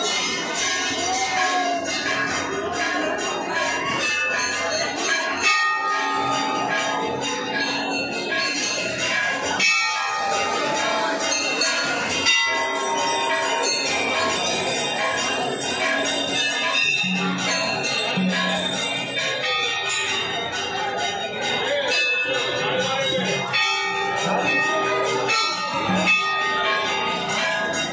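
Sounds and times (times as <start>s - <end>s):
brass bells ringing: 0.0s - 27.9s.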